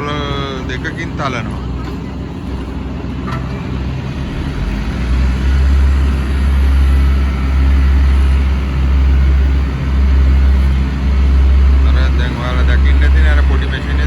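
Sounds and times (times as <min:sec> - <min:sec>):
road roller engines running: 0:00.0 - 0:14.0.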